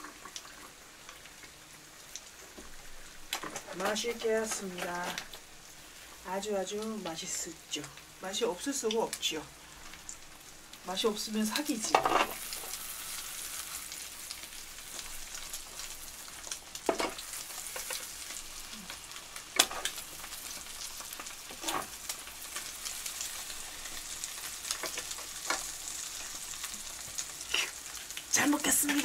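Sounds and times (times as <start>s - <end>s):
food sizzling in a pan: 0.0s - 29.0s.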